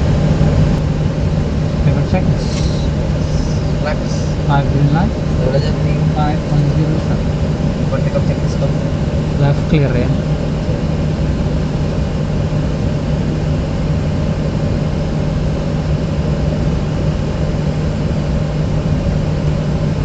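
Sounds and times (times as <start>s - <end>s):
jet engines idling in cockpit: 0.0s - 20.0s.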